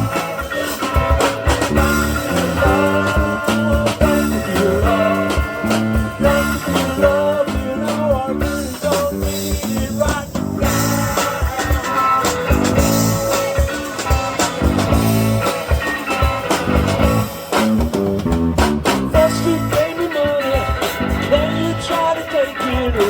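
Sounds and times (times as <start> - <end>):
bass line: 0.0 - 23.0
guitar: 0.0 - 23.0
live rock band playing: 0.0 - 23.0
steady drum beat: 0.0 - 23.0.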